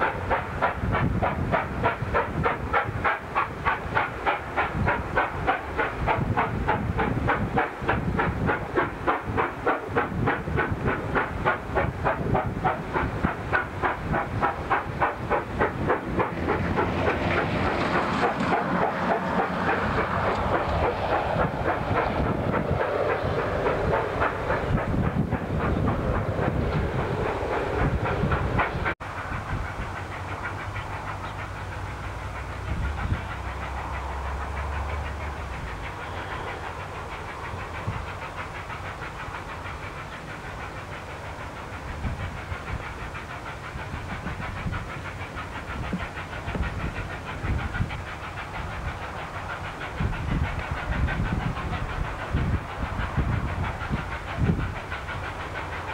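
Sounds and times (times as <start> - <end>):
hissing steam: 0.0 - 55.9
steam locomotive exhaust beating: 0.0 - 55.9.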